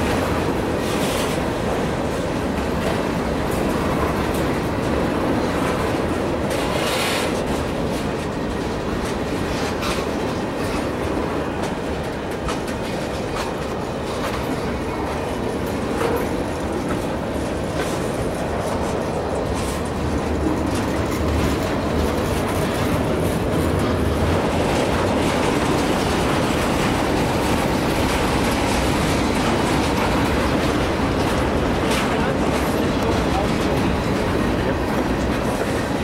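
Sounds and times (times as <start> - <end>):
train wheels rumbling on rail: 0.0 - 36.0
wheels clicking over rail joints: 0.0 - 36.0.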